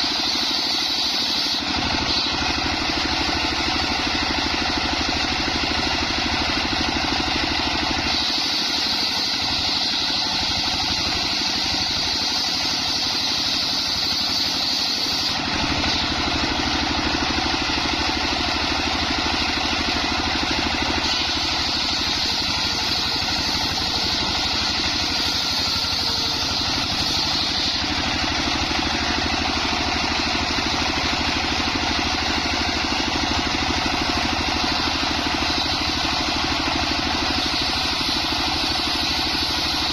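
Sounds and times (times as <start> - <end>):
engine-driven circular saw sawing: 0.0 - 39.9
high saw whine: 0.0 - 39.9.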